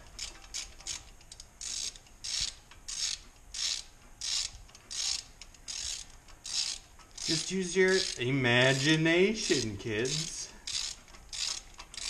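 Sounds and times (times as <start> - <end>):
ratchet pawl clicking: 0.0 - 12.0.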